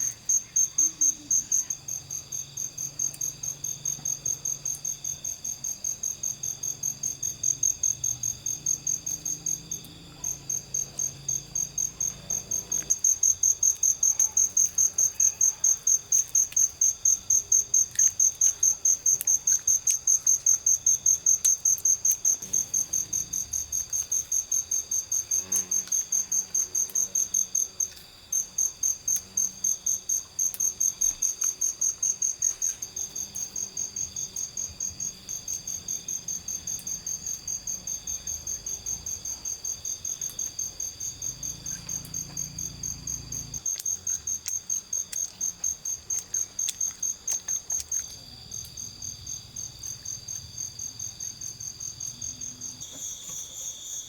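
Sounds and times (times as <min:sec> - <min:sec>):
cricket chirping: 0:00.0 - 0:54.0.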